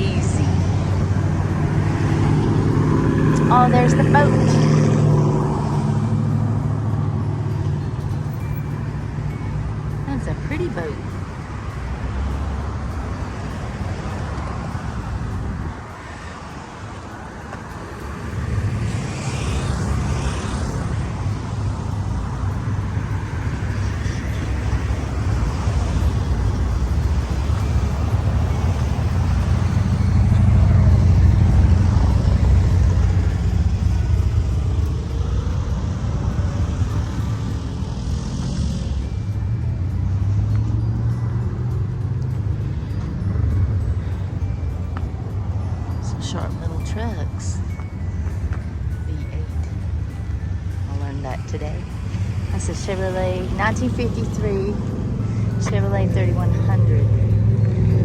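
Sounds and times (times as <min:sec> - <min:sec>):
slow-moving car traffic: 0:00.0 - 0:58.0.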